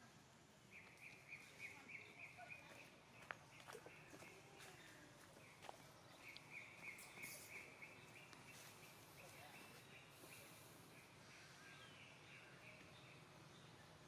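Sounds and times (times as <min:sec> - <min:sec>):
low steady hiss: 0:00.0 - 0:03.5, 0:05.0 - 0:14.0.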